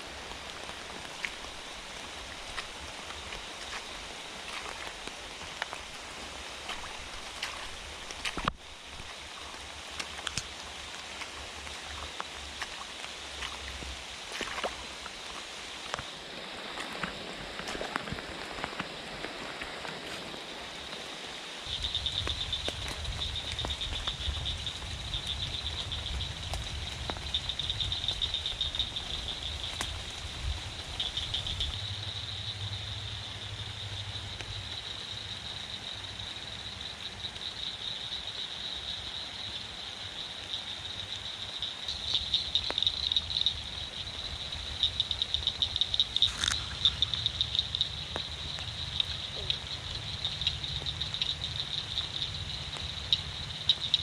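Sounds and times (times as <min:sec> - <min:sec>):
frogs trilling: 0:00.0 - 0:54.0
rain: 0:00.0 - 0:54.0.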